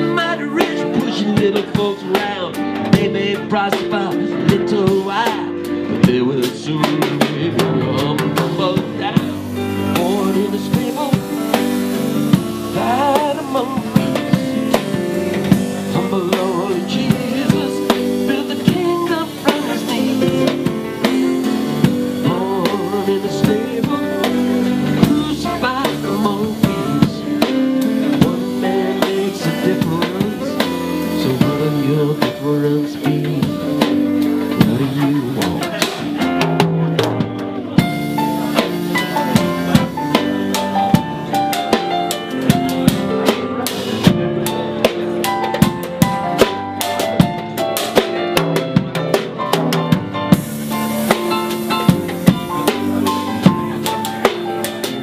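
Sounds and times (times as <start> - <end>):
drum kit with cymbals: 0.0 - 55.0
electric guitar lead: 0.0 - 55.0
keyboard: 0.0 - 55.0.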